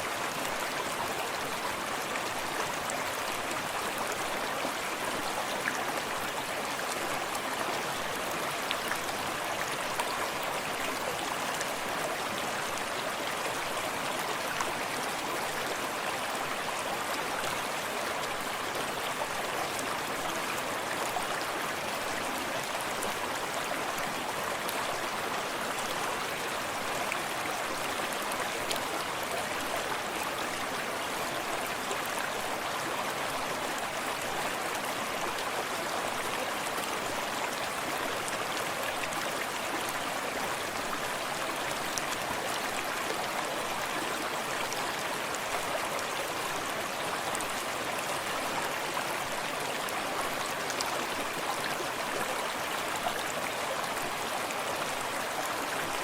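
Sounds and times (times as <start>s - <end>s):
small waterfall rushing: 0.0s - 56.0s
stream babbling over rocks: 0.0s - 56.0s.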